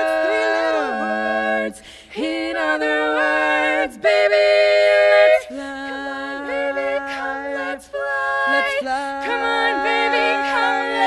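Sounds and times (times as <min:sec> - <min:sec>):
women singing a cappella: 0:00.0 - 0:11.0.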